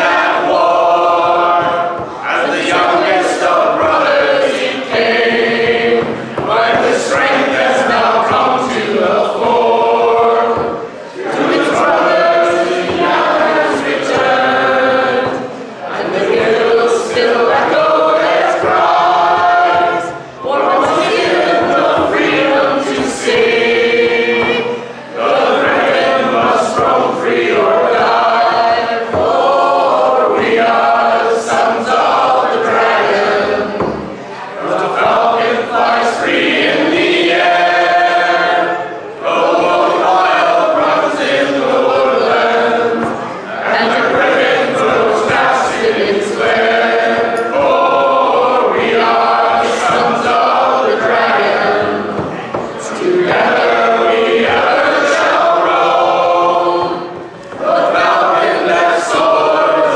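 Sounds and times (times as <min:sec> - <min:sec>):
people singing a cappella: 0:00.0 - 0:59.9.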